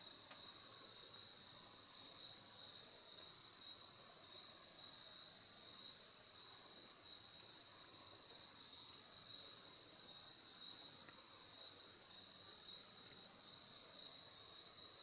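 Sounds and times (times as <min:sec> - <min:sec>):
insect chorus chirring: 0:00.0 - 0:15.0.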